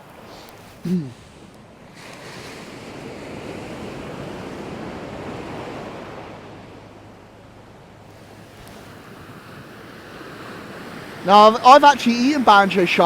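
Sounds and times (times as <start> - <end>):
wave breaking on beach: 0.0 - 6.9, 8.0 - 13.0.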